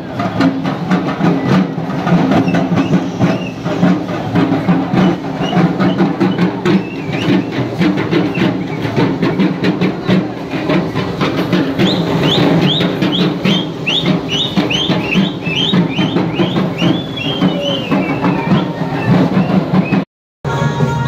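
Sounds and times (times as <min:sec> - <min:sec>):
loud dense drumming: 0:00.0 - 0:21.0.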